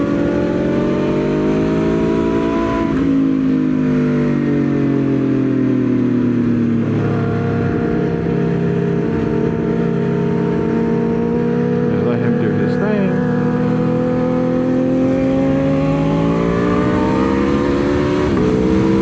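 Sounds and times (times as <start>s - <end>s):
motorcycle engine on track: 0.0s - 19.0s.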